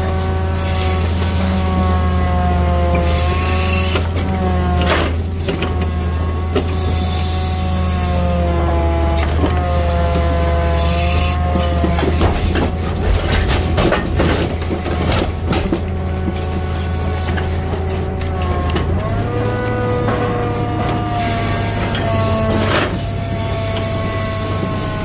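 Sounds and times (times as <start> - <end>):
hydraulic whine: 0.0 - 25.0
truck engine running: 0.0 - 25.0.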